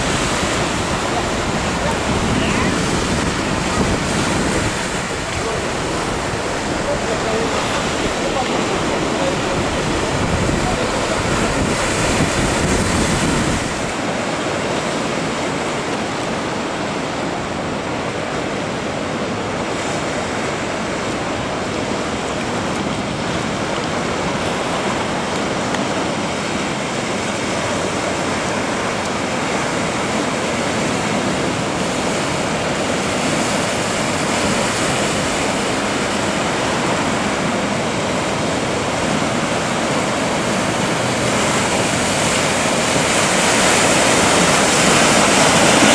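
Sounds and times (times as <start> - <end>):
heavy surf breaking: 0.0 - 45.9.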